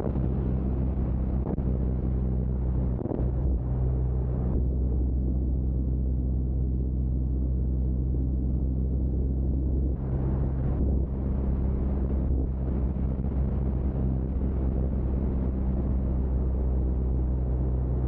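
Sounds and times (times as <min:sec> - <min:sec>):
airflow rushing over microphone: 0:00.0 - 0:18.0
propeller engine drone: 0:00.0 - 0:18.0.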